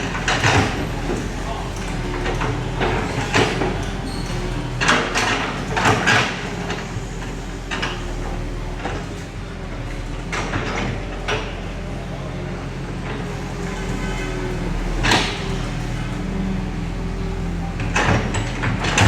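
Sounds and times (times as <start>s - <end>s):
bulldozer diesel engine running: 0.0s - 19.0s
bulldozer scraping: 0.0s - 19.0s.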